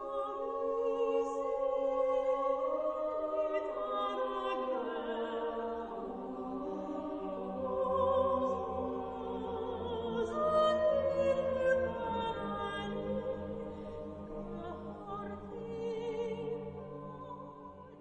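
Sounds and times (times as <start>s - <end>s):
choir holding long notes: 0.0s - 18.0s.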